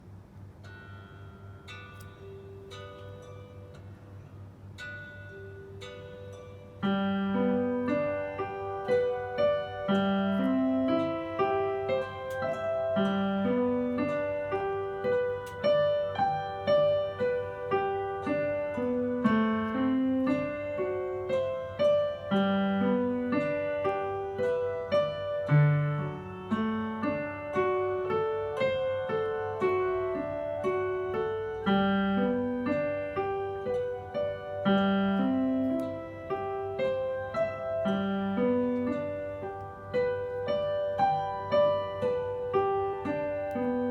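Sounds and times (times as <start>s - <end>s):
solo piano piece: 0.0s - 43.9s.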